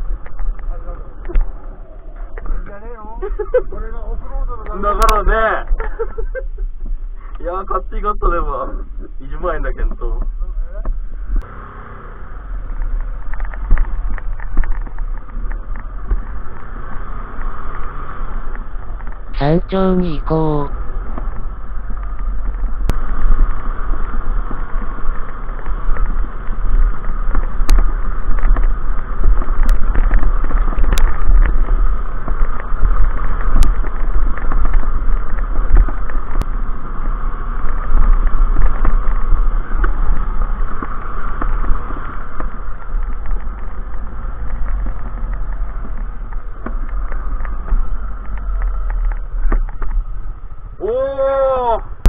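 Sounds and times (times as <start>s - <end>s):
wind rumble on microphone: 0.0s - 20.0s, 20.7s - 52.0s
motorcycle engine at low speed: 0.0s - 52.0s.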